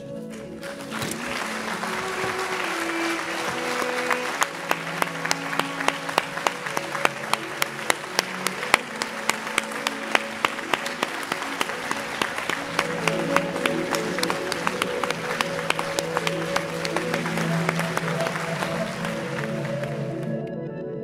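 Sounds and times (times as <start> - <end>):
audience applause: 0.0 - 20.4
music playing: 0.0 - 21.0.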